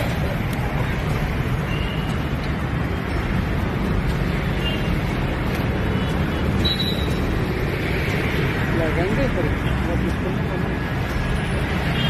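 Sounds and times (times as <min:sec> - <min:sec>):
distant city traffic: 0:00.0 - 0:12.0.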